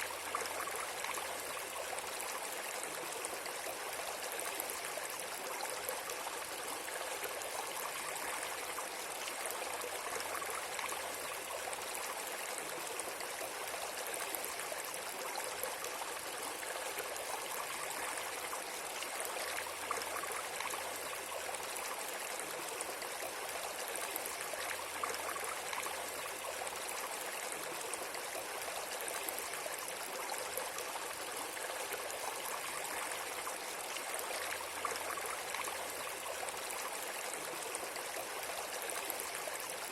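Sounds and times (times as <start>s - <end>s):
rush of flowing water: 0.0s - 39.9s.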